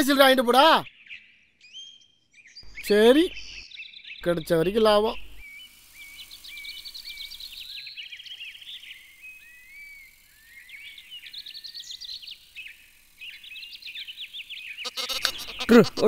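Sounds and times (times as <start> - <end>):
small birds chirping and twittering: 0.0 - 16.0.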